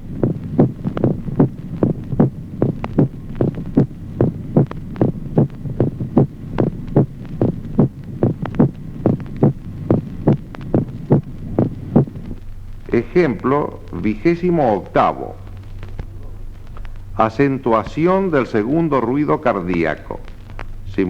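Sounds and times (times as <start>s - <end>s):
heartbeat: 0.0s - 20.9s
low steady hum: 0.0s - 21.0s.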